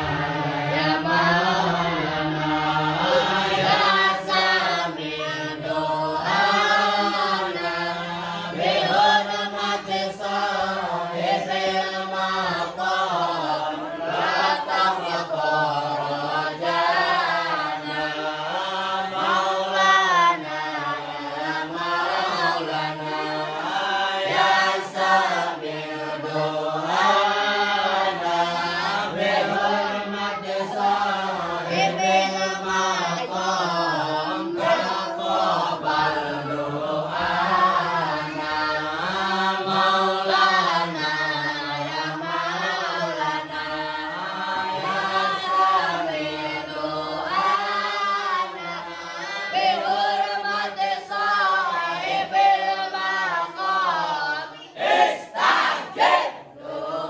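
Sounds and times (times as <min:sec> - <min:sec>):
group chanting in unison: 0:00.0 - 0:57.0.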